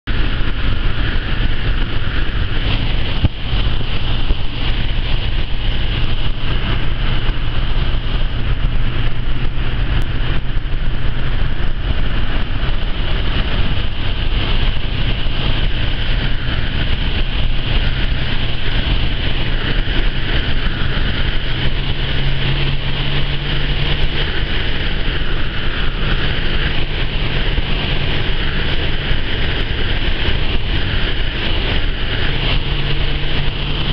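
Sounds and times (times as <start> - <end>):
car engine running: 0.0 - 33.9
road and wind noise: 0.0 - 33.9.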